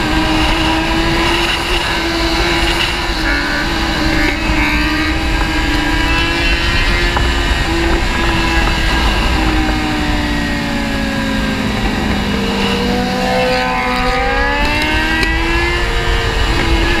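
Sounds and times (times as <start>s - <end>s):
motorcycle engine at speed: 0.0s - 17.0s
wind rumble on microphone: 0.0s - 17.0s.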